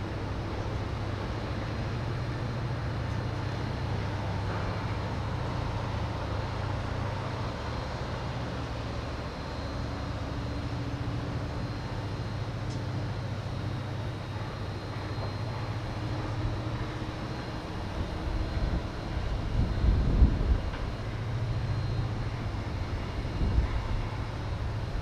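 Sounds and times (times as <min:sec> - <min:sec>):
distant machinery hum: 0:00.0 - 0:25.0.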